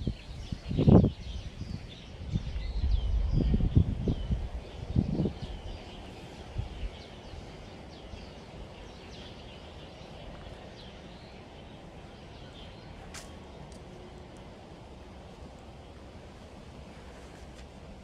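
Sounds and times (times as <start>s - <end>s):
birds chirping: 0.0s - 16.7s
low outdoor background rumble: 0.0s - 18.0s.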